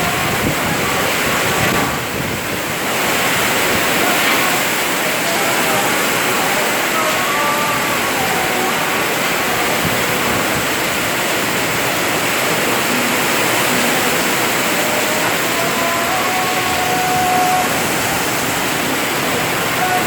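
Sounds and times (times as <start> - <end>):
heavy rain: 0.0 - 20.0
strong wind: 0.0 - 20.0.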